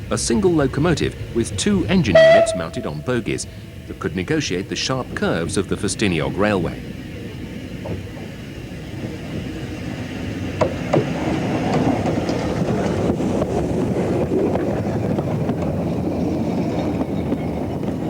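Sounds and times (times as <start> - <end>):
steam train rumbling: 0.0 - 18.0.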